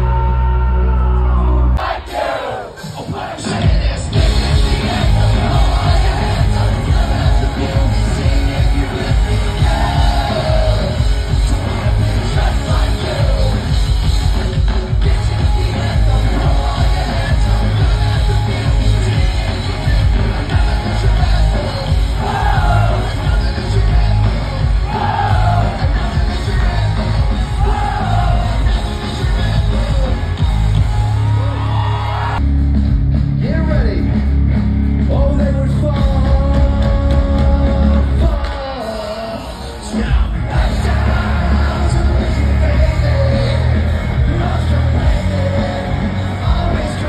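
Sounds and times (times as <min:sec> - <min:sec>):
audience yelling: 0:00.0 - 0:32.4, 0:38.1 - 0:47.0
live rock music with singing: 0:00.0 - 0:47.0.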